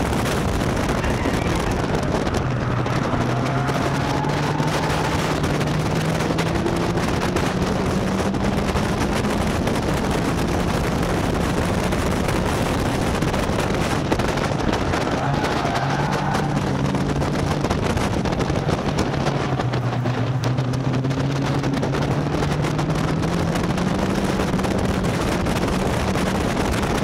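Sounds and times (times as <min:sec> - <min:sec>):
race car engine running hard: 0:00.0 - 0:27.0
wind rushing over microphone: 0:00.0 - 0:27.0.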